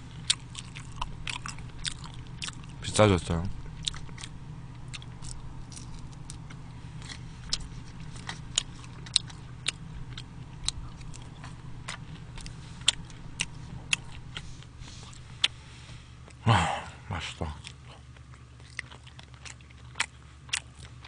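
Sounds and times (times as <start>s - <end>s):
person chewing crunchy food: 0.0s - 21.0s
steady low hum: 0.0s - 21.0s.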